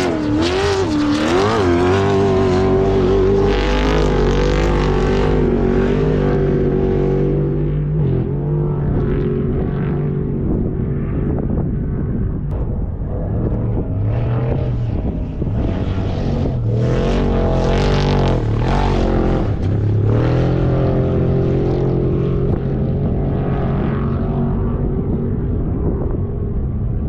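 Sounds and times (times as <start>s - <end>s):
race vehicle engine revving: 0.0s - 11.4s, 12.1s - 25.2s.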